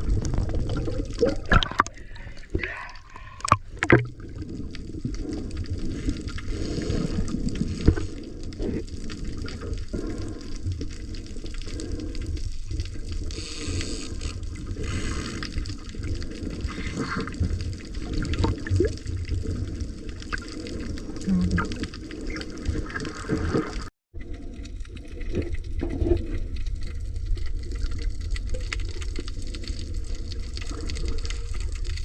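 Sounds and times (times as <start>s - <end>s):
sea water sloshing and splashing: 0.0s - 32.0s.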